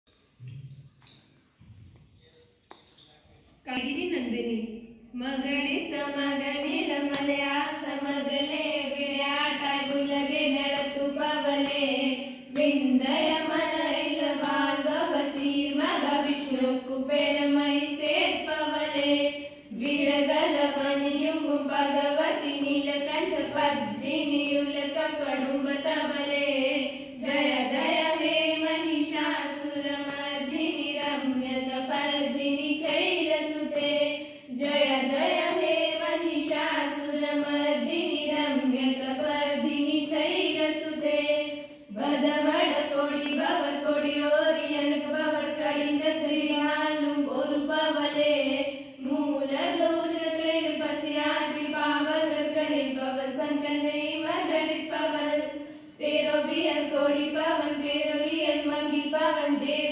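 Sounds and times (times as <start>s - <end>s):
girls singing in unison: 5.2s - 59.9s.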